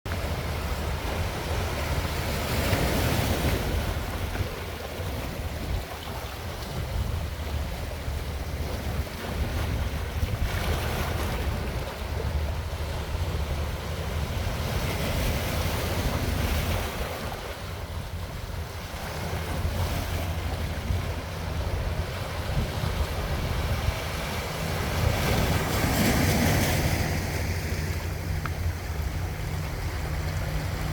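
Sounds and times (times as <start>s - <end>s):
sea waves breaking: 0.0s - 30.9s
wind buffeting microphone: 0.1s - 30.9s.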